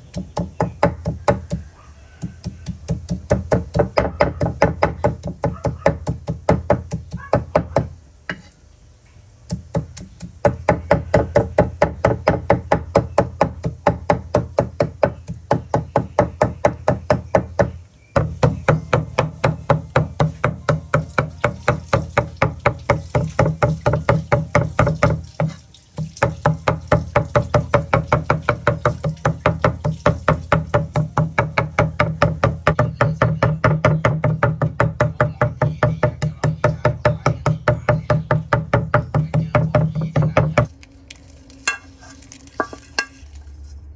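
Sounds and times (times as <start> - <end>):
knife chopping on a board: 0.0 - 8.5, 9.5 - 40.7.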